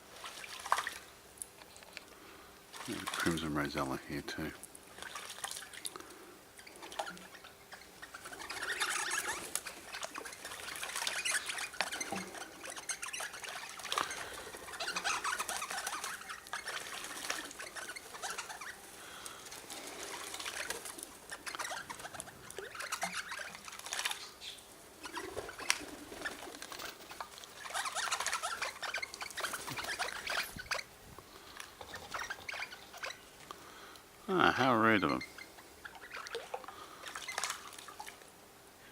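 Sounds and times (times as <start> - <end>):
birds rustling and scrabbling: 0.0 - 38.4
birds chattering: 5.6 - 37.6.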